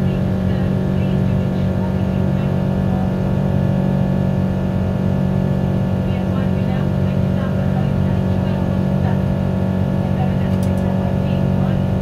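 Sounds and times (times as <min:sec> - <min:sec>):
aircraft engines droning: 0:00.0 - 0:12.0
constant low hum: 0:00.0 - 0:12.0.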